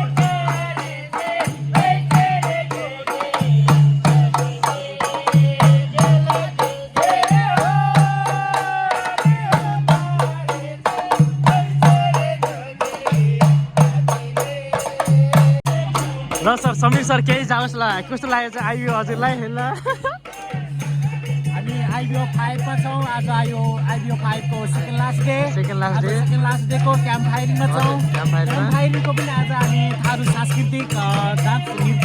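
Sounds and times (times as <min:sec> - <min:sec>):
fast rattling percussion beat: 0:00.0 - 0:32.0.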